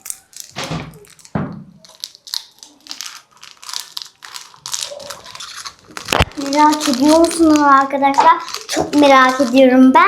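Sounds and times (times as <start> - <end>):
packaging crinkling and rustling: 0.0 - 9.9.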